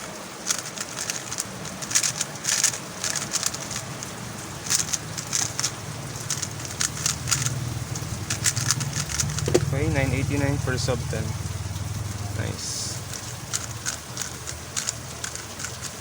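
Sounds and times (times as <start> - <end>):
puzzle cube plastic clicking: 0.0 - 9.7, 12.4 - 16.0
low engine-like hum: 2.6 - 16.0.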